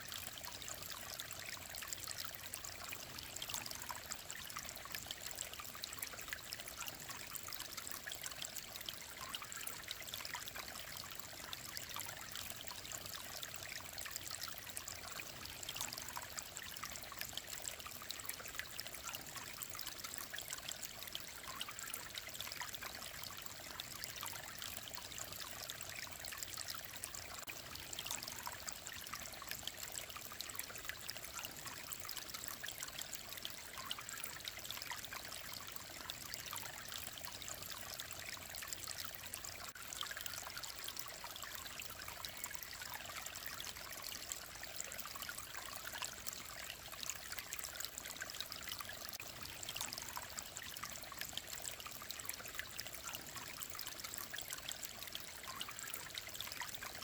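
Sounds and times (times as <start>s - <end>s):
stream water babbling: 0.0s - 57.0s.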